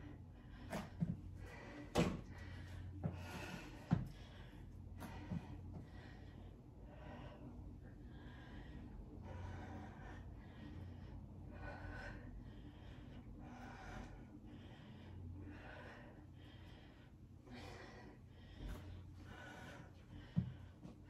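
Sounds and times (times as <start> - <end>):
faint low hum: 0.0 - 21.0
person breathing with effort: 0.0 - 21.0.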